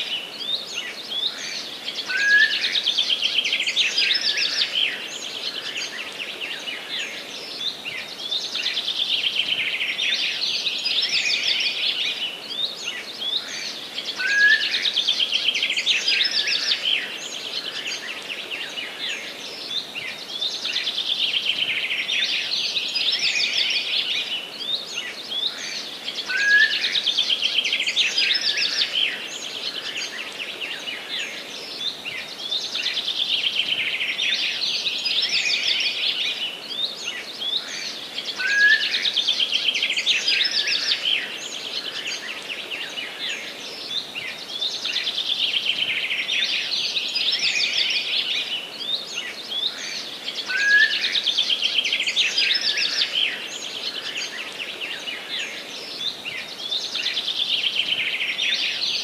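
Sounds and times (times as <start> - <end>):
songbirds singing in chorus: 0.0 - 59.0.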